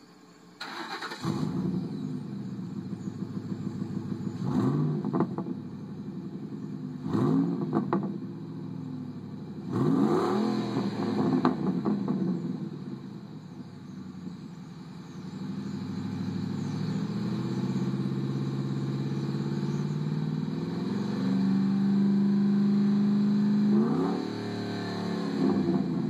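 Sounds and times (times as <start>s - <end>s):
truck engine revving: 0.6s - 8.9s, 9.5s - 13.1s, 15.2s - 26.0s.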